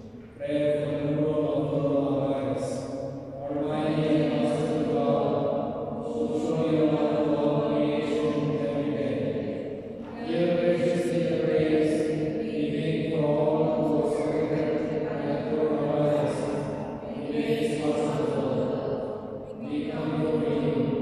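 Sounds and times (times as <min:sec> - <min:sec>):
slow hymn singing: 0:03.4 - 0:21.0.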